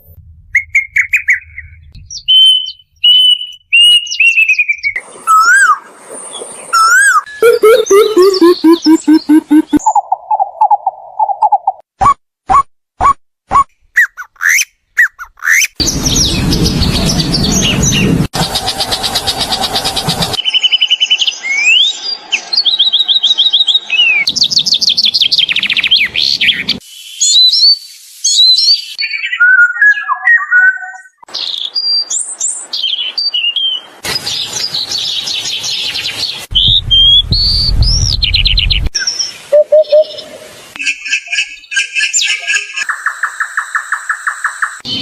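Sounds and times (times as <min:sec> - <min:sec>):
birds chirping and trilling: 0:00.5 - 0:11.7, 0:13.8 - 0:45.0.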